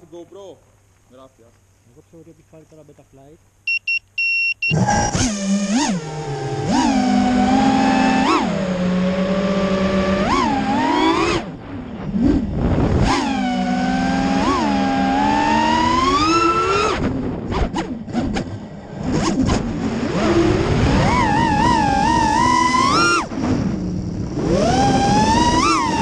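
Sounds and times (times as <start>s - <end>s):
drone motors whining: 4.6s - 26.0s.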